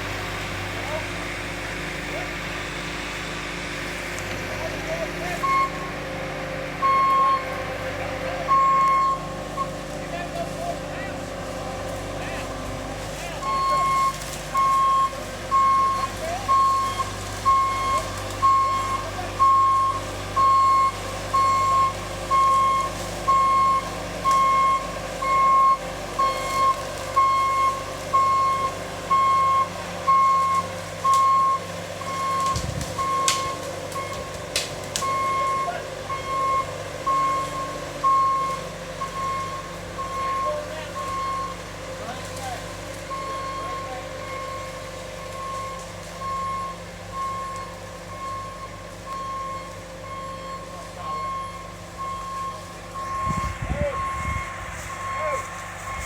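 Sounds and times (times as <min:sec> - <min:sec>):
engine running: 0:00.0 - 0:56.0
reversing alarm beeping: 0:04.9 - 0:06.0, 0:06.8 - 0:10.8, 0:13.4 - 0:56.0.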